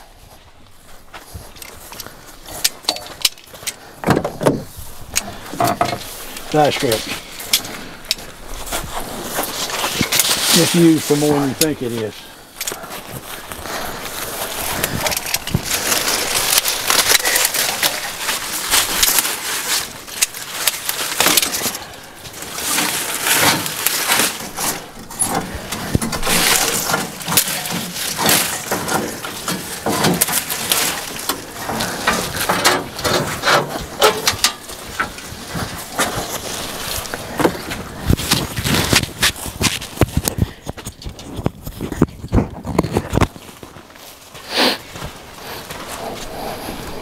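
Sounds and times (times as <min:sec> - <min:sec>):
weeds rustling and snapping: 0:04.6 - 0:46.3.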